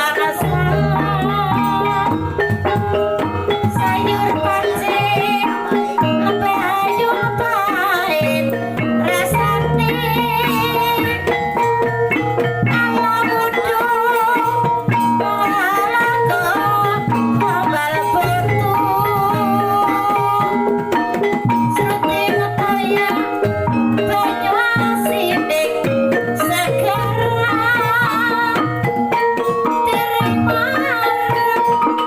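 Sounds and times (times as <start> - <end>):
drums: 0.0 - 32.0
ornamented melody line: 0.0 - 32.0
ringing pitched percussion: 0.0 - 32.0.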